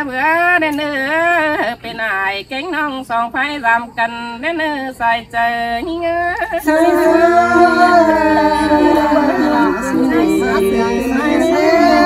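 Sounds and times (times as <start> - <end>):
person singing unaccompanied: 0.0 - 12.0.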